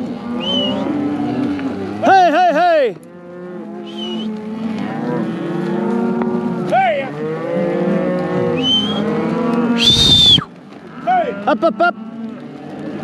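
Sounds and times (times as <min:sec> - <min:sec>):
cattle mooing: 0:00.0 - 0:13.0.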